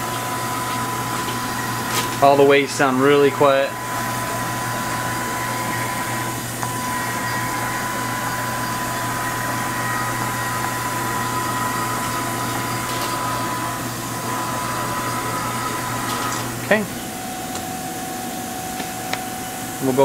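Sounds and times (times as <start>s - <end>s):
high machine whine: 0.0s - 20.0s
machine hum: 0.0s - 20.0s.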